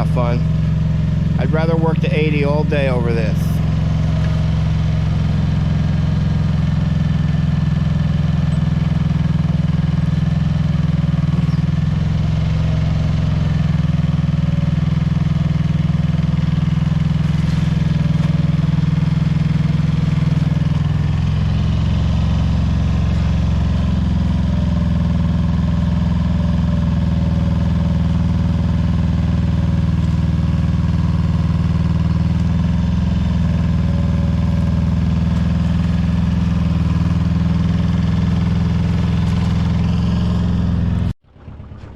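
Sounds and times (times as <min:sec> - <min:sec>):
excavator engine running: 0:00.0 - 0:41.9.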